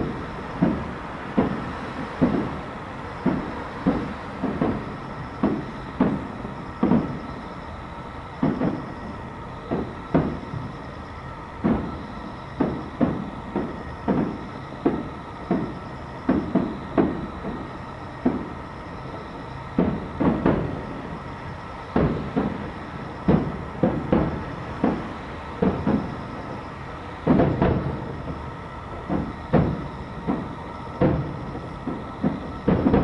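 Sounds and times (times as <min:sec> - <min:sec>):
firework booms echoing: 0:00.0 - 0:07.5, 0:08.3 - 0:11.0, 0:11.6 - 0:33.0.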